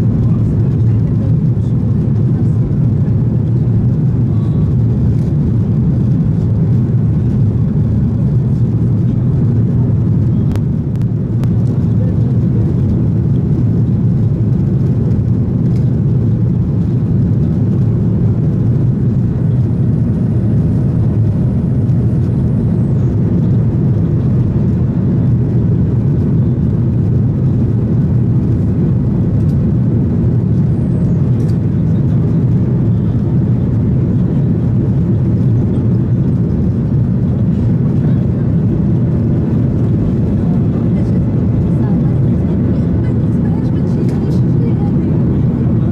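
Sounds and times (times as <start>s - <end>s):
airplane cabin drone: 0.0s - 45.9s
rushing airflow: 0.0s - 45.9s.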